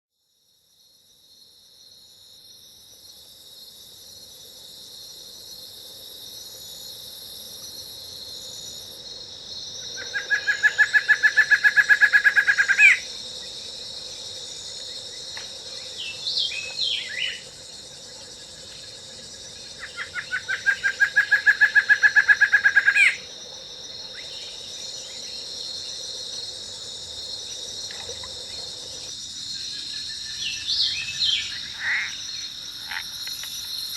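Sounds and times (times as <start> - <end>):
high insect drone: 0.2 - 33.9.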